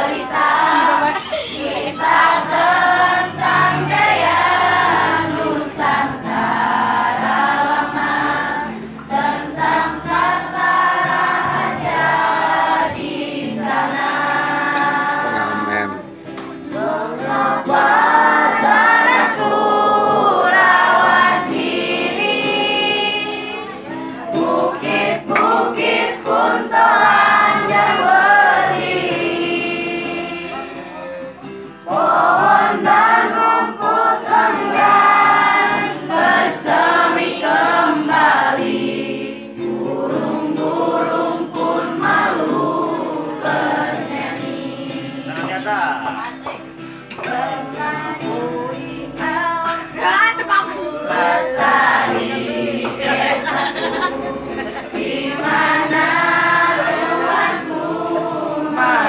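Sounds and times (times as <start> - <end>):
acoustic guitar: 0.0 - 59.0
group of voices singing: 0.0 - 59.0.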